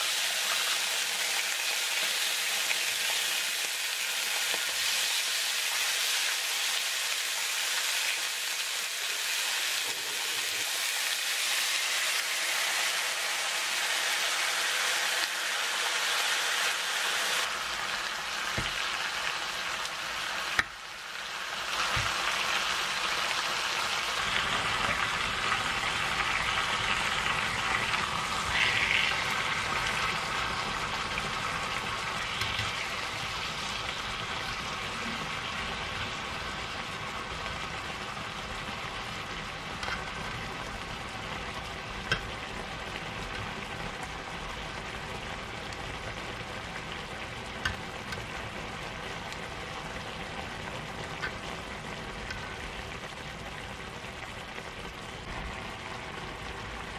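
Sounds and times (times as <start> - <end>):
meat sizzling on griddle: 0.0 - 56.9.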